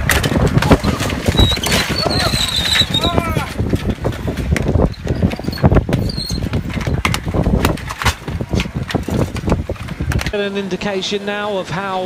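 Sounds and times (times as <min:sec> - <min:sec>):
bicycles clicking and clattering: 0:00.0 - 0:10.4.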